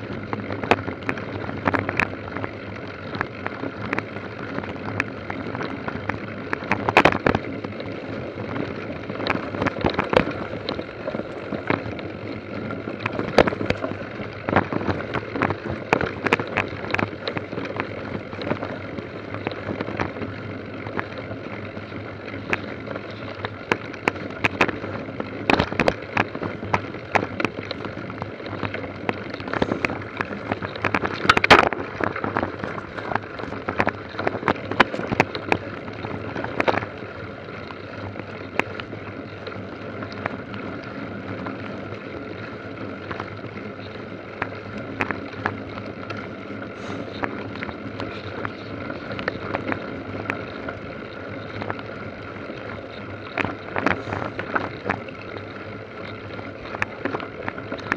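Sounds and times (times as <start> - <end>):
bike rattles and knocks: 0.0 - 57.9
bike tyres rolling on trail: 0.0 - 57.9
wind on microphone: 0.0 - 57.9.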